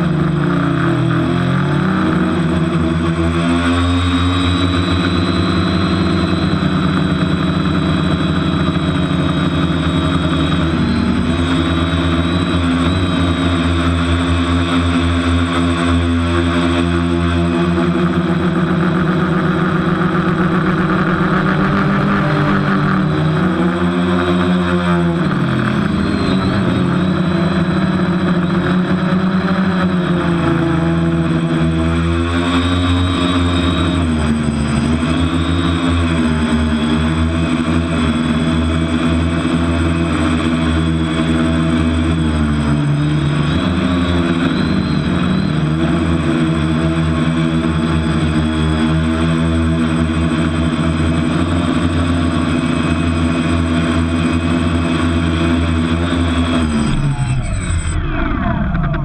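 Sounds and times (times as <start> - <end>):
quadcopter propellers whining: 0.0 - 59.0.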